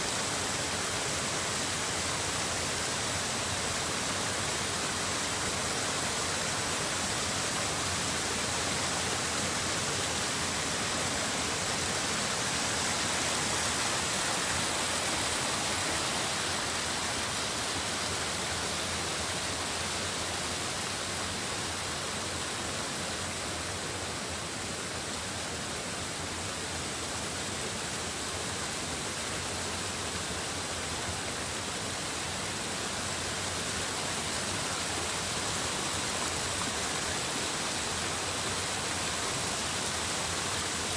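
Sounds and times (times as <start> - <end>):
stream rushing over boulders: 0.0 - 40.9.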